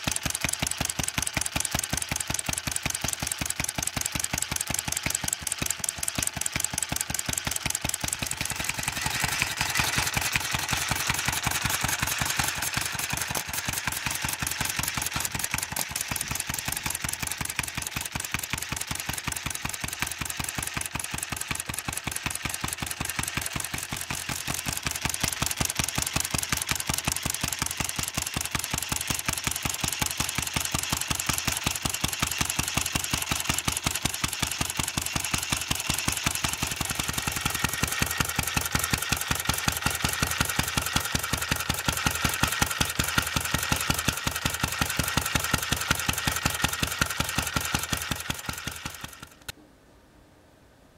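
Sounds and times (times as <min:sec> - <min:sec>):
flywheel engine running: 0:00.0 - 0:49.5.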